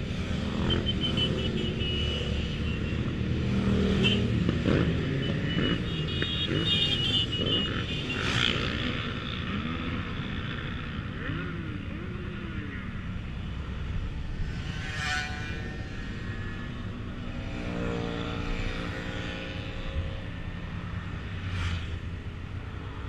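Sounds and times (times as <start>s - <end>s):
motorcycle engines running: 0.0s - 23.0s
road rumble: 0.0s - 23.0s.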